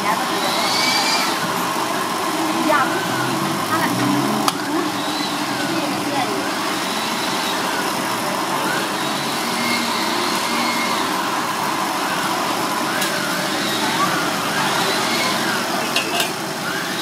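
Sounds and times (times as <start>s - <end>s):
gas burner: 0.0s - 17.0s
passing traffic: 0.0s - 17.0s.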